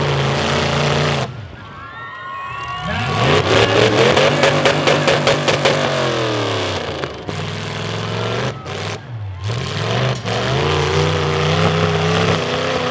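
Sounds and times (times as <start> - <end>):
car engines revving: 0.0 - 1.8, 2.5 - 12.9.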